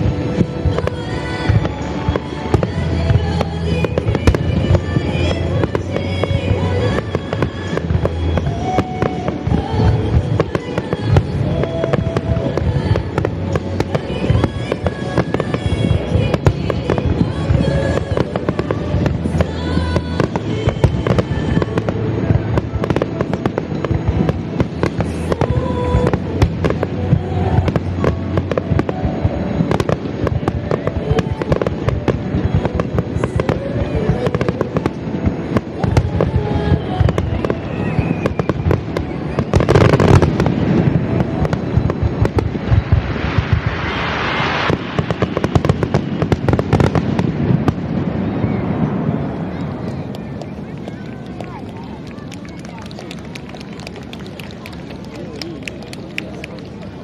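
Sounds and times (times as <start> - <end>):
music playing: 0.0 - 48.2
fireworks bursting and crackling: 0.0 - 57.0.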